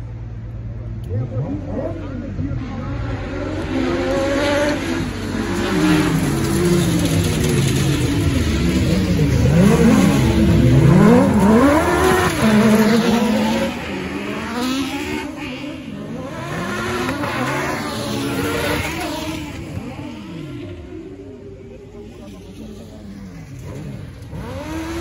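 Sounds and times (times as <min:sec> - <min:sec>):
racing buggy engines revving: 0:00.0 - 0:25.0.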